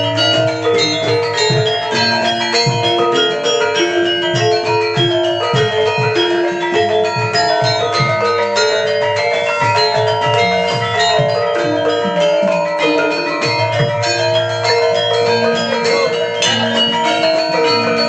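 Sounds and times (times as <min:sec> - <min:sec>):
kettle gongs struck with mallets: 0:00.0 - 0:18.0.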